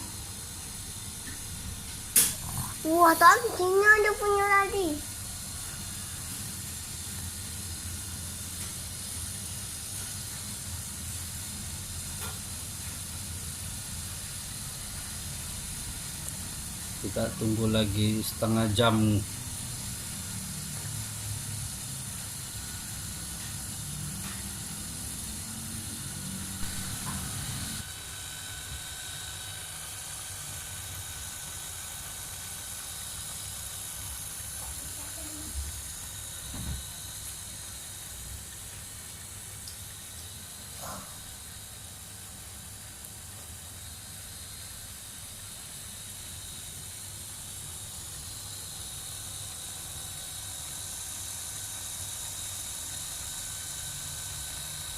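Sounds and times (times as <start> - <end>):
machine motor hissing: 0.0 - 42.6, 43.5 - 54.9.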